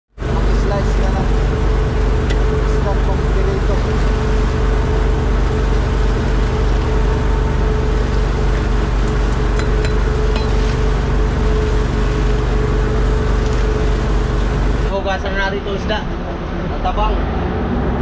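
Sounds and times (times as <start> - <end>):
boat engine running: 0.1 - 18.0.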